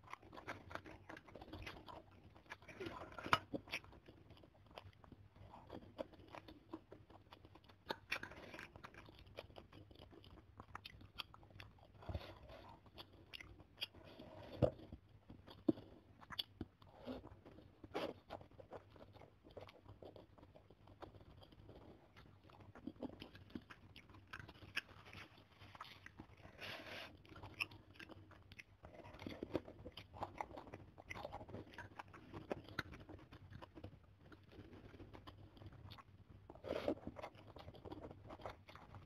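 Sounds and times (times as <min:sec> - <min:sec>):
chewing noodles: 0:00.0 - 0:39.0.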